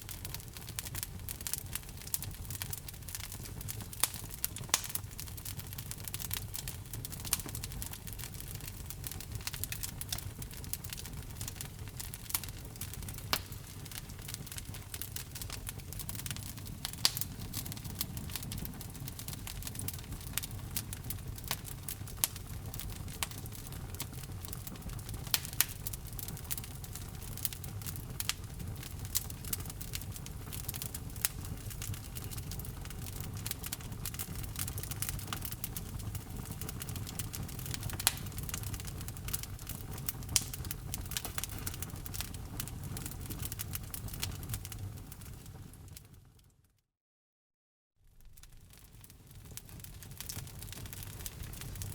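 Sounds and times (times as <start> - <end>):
wood fire crackling: 0.0 - 46.3, 48.1 - 51.9.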